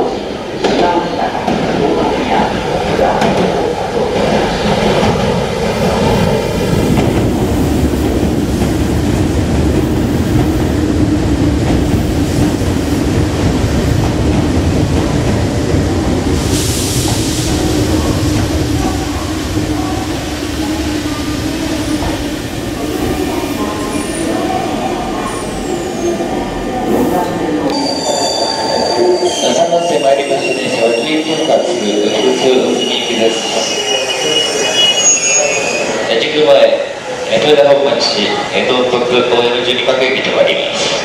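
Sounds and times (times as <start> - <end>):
electric train rumbling to a stop: 0.0 - 38.5.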